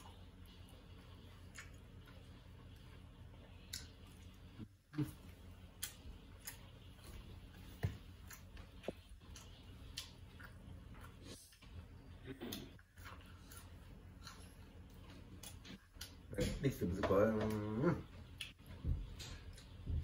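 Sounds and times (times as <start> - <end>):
faint low hum: 0.0 - 20.0
person chewing food: 0.0 - 20.0.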